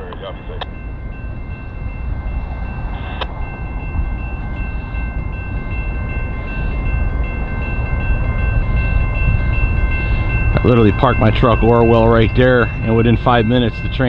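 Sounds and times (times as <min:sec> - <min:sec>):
locomotive engine rumble: 0:00.0 - 0:14.0.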